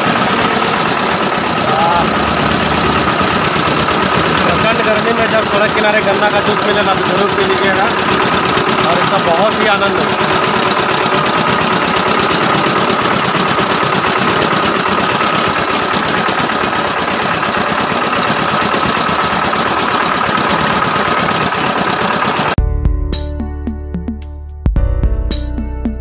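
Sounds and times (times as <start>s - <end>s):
diesel engine chugging: 0.0s - 22.6s.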